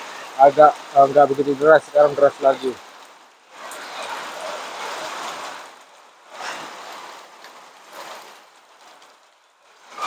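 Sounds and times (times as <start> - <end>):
heavy rain on a rooftop: 0.0 - 10.0.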